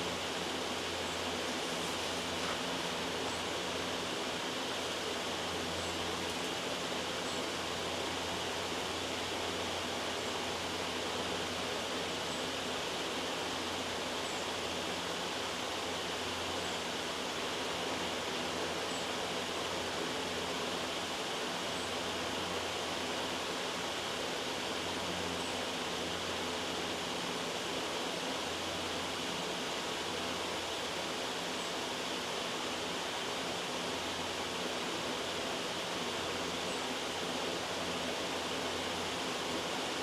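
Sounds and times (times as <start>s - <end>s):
loud white noise hiss: 0.0s - 40.0s.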